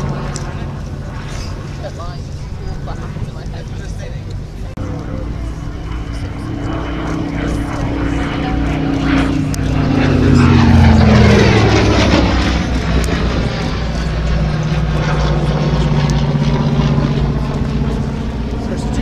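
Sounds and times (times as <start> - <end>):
propeller plane engine passing: 0.0 - 19.0.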